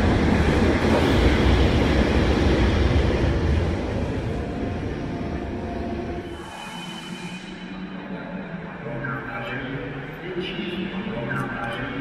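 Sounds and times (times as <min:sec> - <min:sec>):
electric locomotive passing: 0:00.0 - 0:12.0.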